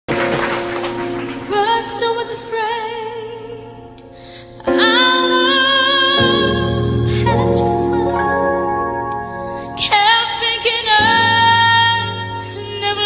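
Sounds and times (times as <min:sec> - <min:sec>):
person singing slow song: 0:01.3 - 0:13.0.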